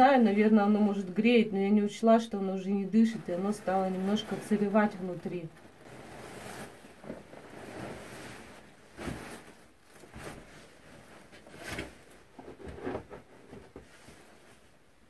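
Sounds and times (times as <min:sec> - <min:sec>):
bedding rustling: 0:02.6 - 0:15.0.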